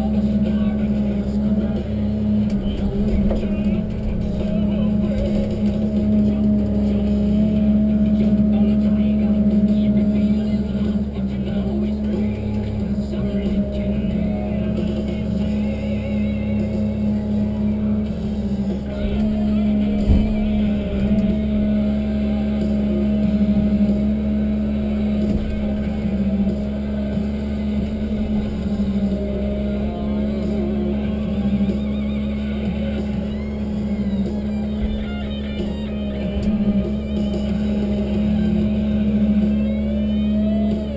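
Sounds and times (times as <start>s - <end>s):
engine and hydraulics droning: 0.0s - 40.9s.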